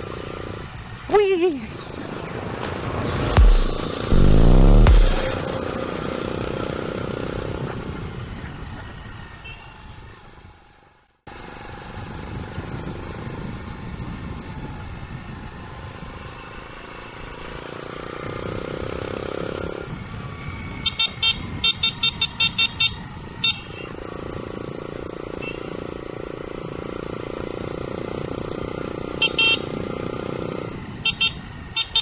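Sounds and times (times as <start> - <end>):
motorcycle engine and road noise: 0.0 - 32.0.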